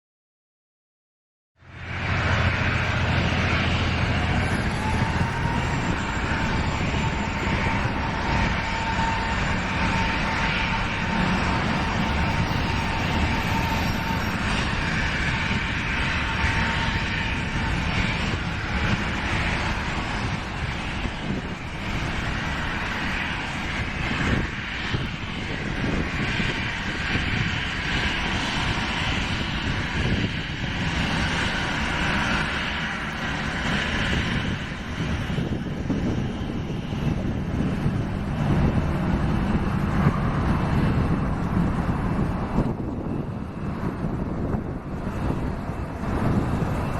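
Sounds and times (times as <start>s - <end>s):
jet engines roaring: 1.6s - 46.9s.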